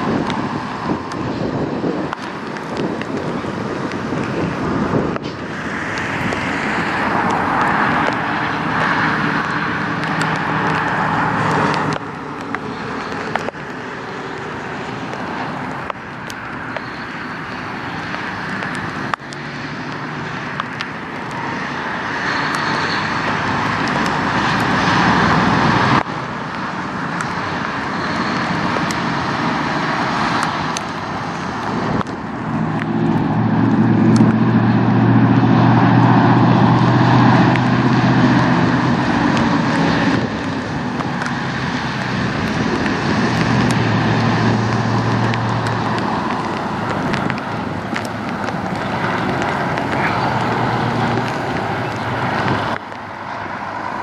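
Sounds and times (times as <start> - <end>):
diesel truck accelerating through gears: 0.0 - 54.0.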